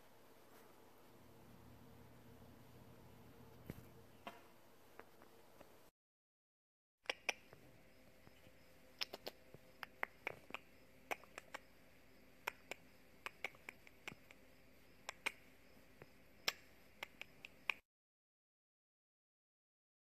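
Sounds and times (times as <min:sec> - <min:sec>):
faint steady hum: 0:00.0 - 0:05.9, 0:07.1 - 0:17.8.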